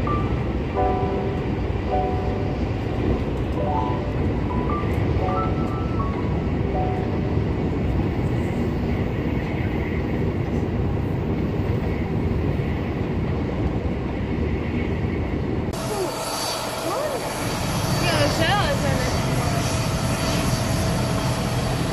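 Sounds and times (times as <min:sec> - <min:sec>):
train rumble inside carriage: 0:00.0 - 0:21.9.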